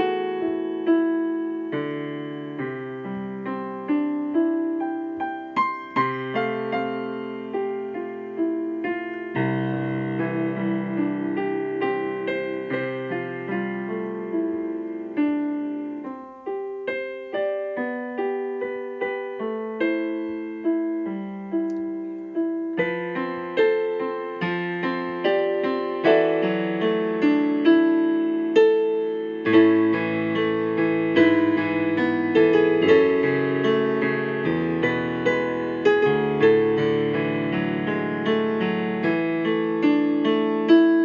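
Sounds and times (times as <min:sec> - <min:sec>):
slow solo piano: 0:00.0 - 0:41.0.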